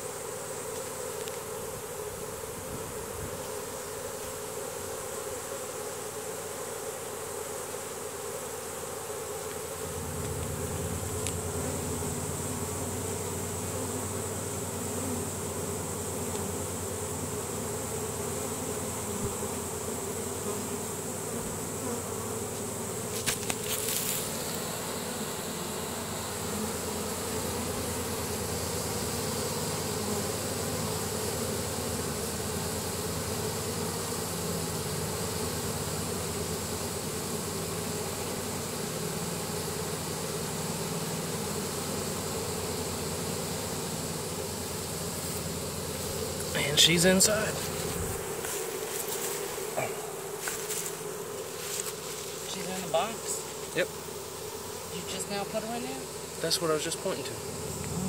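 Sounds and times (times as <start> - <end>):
bee swarm buzzing: 0.0 - 58.0.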